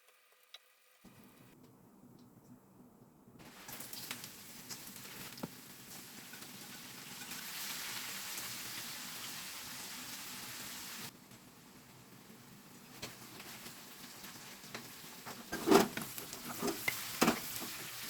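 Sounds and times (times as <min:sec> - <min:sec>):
food sizzling in a pan: 0:03.4 - 0:18.0.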